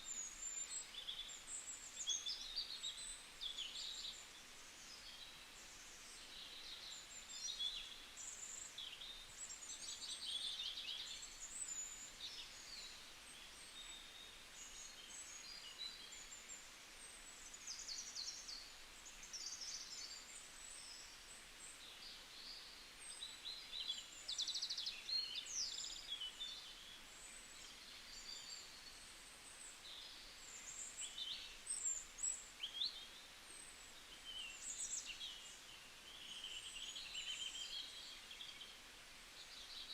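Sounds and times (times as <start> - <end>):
soft forest hiss: 0.0 - 39.9.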